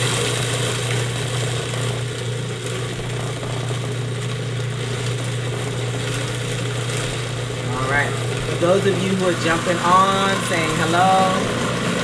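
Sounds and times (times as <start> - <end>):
food processor motor humming: 0.0 - 12.0.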